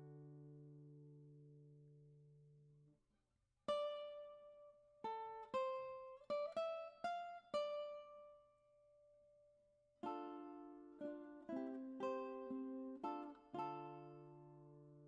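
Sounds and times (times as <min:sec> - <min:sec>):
plucked string instrument music: 0:00.0 - 0:03.0, 0:03.6 - 0:09.4, 0:10.0 - 0:15.0.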